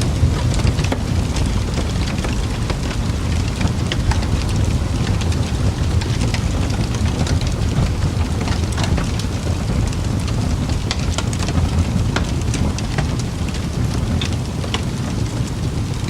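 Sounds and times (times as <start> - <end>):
burning wood rumble: 0.0 - 16.0
fire pops and crackles: 0.0 - 16.0.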